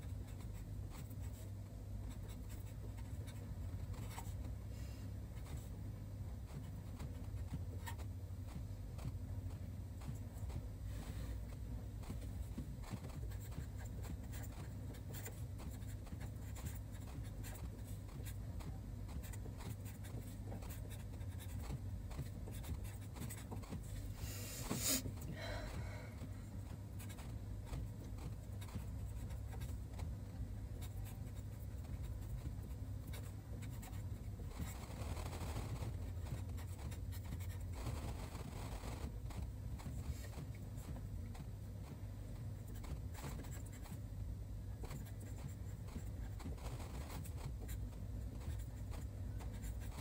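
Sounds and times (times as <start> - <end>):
marker pen scratching on paper: 0.0 - 4.6, 5.2 - 50.0
steady low hum: 0.0 - 50.0.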